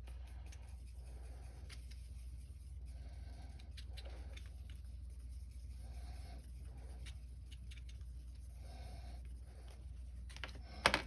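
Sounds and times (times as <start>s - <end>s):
steady low hum: 0.0s - 11.0s
stick stirring epoxy: 0.0s - 11.0s.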